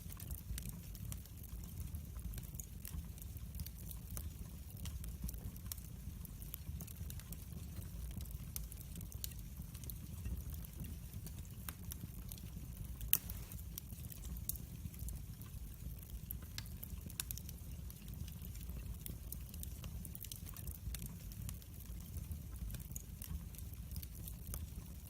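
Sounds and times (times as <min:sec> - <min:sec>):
fire pops and snaps: 0:00.0 - 0:25.0
low rumble of flames: 0:00.0 - 0:25.0.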